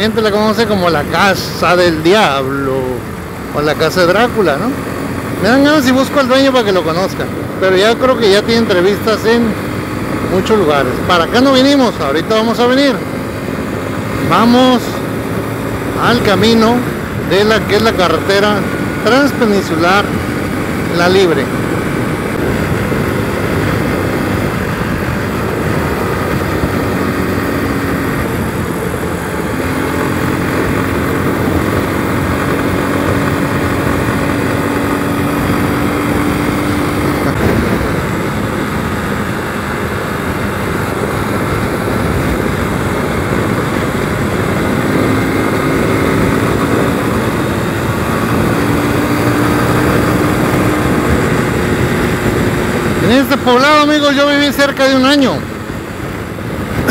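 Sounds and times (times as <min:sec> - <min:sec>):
motorcycle engine running: 0:00.0 - 0:56.9
wind rush: 0:00.0 - 0:56.9.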